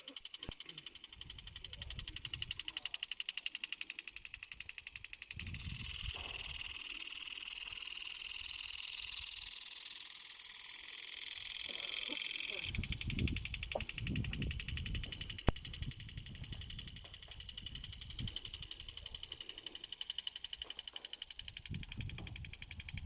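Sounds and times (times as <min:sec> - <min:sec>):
impulse sprinkler ticking: 0:00.0 - 0:23.0.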